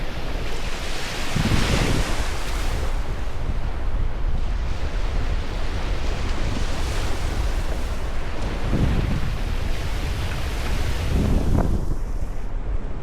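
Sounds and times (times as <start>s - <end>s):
sea waves washing in: 0.0s - 13.0s
wind rumbling on microphone: 0.0s - 13.0s.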